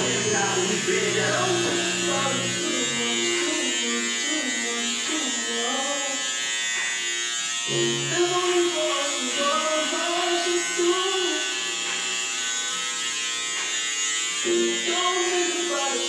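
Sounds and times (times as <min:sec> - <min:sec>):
small electric motor buzzing: 0:00.0 - 0:16.0.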